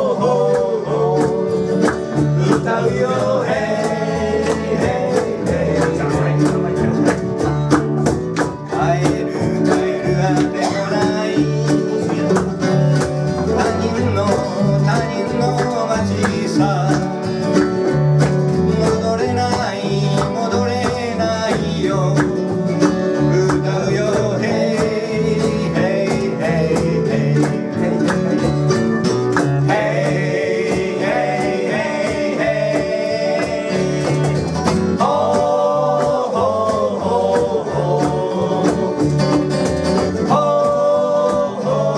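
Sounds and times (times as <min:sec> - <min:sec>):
person singing: 0:00.0 - 0:17.6, 0:18.6 - 0:28.8, 0:29.5 - 0:41.9
guitar strumming: 0:00.0 - 0:41.9.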